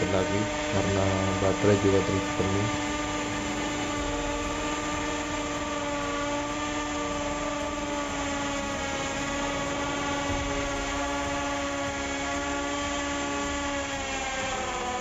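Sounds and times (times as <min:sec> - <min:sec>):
drill motor whine: 0:00.0 - 0:15.0.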